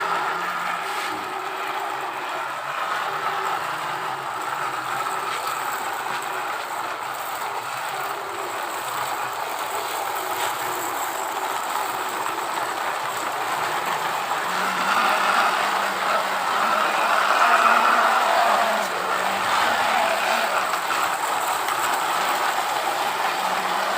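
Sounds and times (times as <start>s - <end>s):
steady mechanical running noise: 0.0s - 23.9s.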